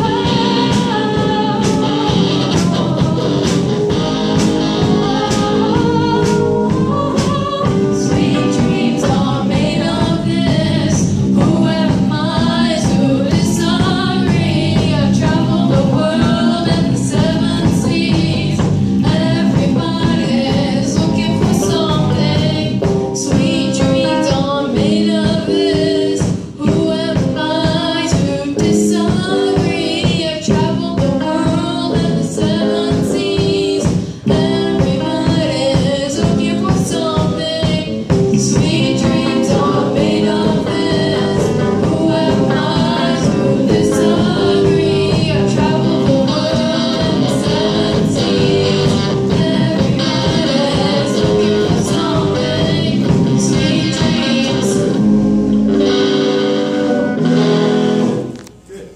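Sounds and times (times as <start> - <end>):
person singing: 0.0 - 55.2
musical accompaniment: 0.0 - 58.9.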